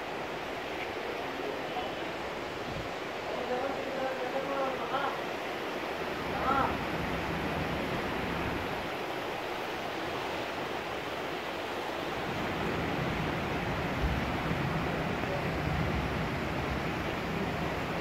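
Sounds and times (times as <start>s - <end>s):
river current rushing: 0.0s - 18.0s.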